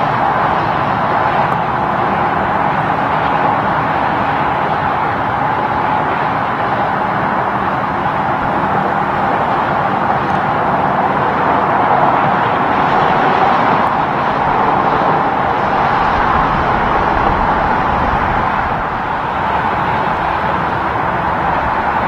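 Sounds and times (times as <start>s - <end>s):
highway traffic roar: 0.0s - 22.0s.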